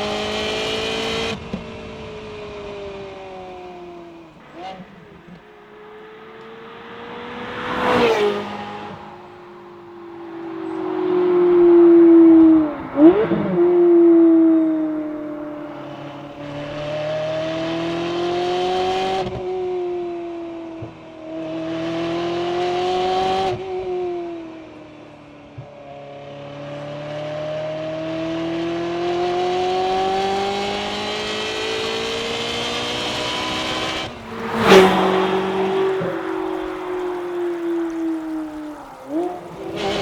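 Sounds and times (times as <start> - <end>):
car engine revving: 0.0 - 20.0, 27.1 - 40.0.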